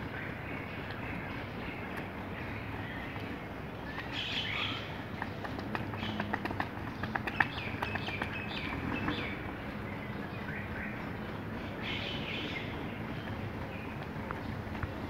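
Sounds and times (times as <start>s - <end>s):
footsteps on asphalt: 0.0s - 4.1s, 4.8s - 15.0s
small birds chirping: 0.0s - 15.0s.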